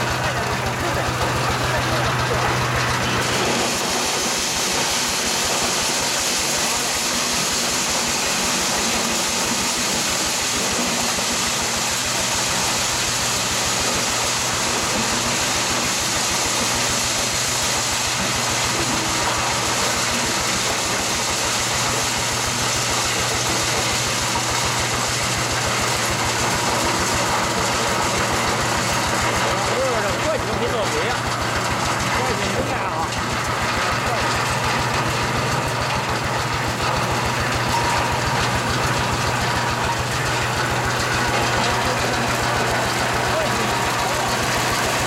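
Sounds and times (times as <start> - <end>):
corn sheller drum spinning: 0.0 - 45.0
tractor engine chugging: 0.0 - 45.0.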